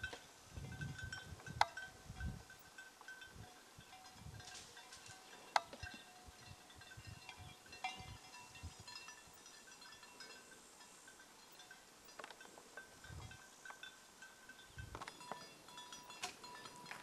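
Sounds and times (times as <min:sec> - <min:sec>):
goat bells tinkling: 0:00.0 - 0:17.0.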